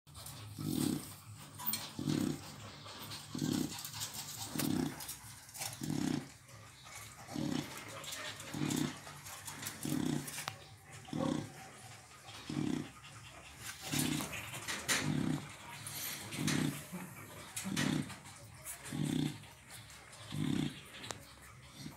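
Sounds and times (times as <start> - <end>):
dog heavy breathing: 0.1 - 21.9.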